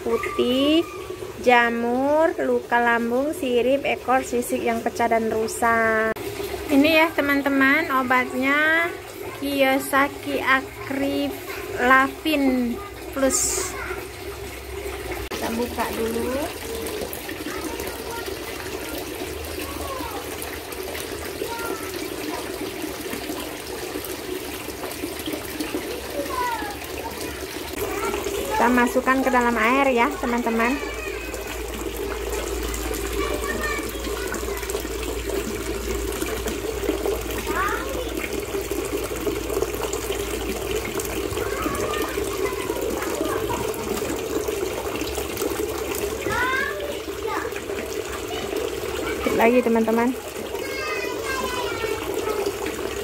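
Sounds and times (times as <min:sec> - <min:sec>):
running water splashing: 0:00.0 - 0:53.0.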